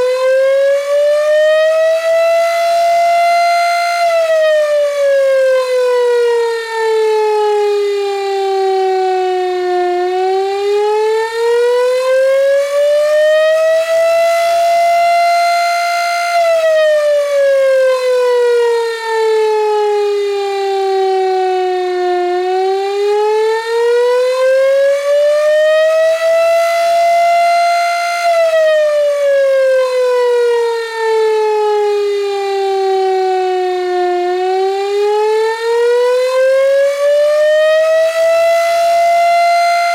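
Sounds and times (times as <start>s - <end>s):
wailing electric siren: 0.0s - 39.9s.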